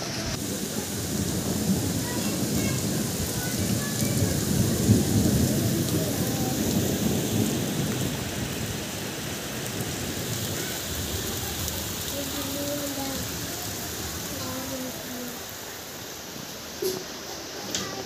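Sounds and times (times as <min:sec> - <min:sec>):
thunder rumble: 0:00.0 - 0:15.4
heavy rain splashing: 0:00.0 - 0:18.0.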